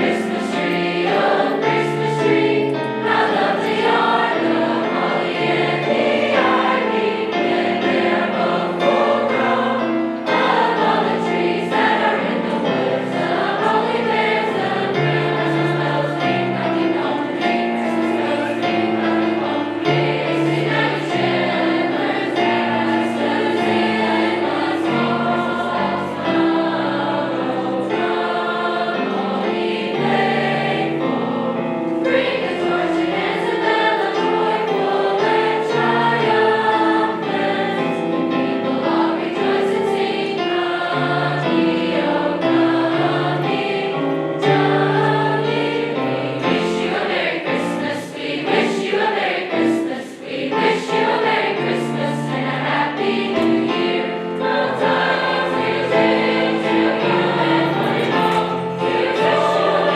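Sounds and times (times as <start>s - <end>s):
choir singing: 0.0s - 59.9s
instrumental accompaniment: 0.0s - 59.9s.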